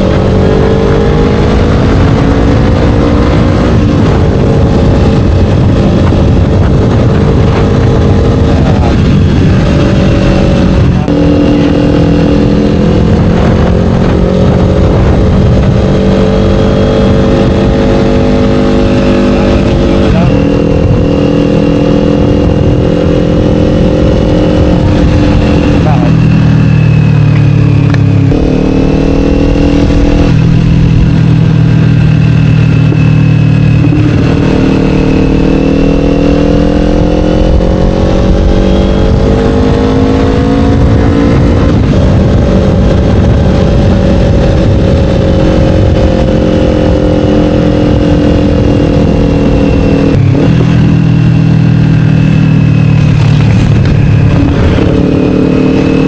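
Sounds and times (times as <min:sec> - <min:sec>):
motorcycle engine revving: 0:00.0 - 0:56.0
road noise: 0:00.0 - 0:56.0
wind noise: 0:00.0 - 0:56.0.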